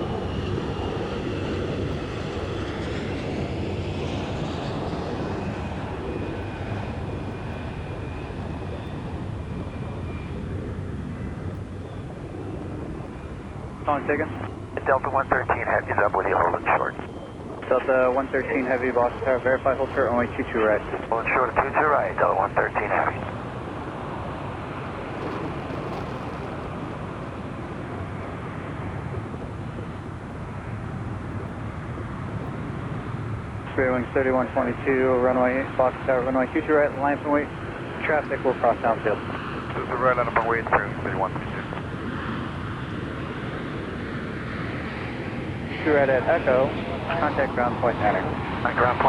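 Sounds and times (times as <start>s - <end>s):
jet engines at takeoff: 0.0s - 49.0s.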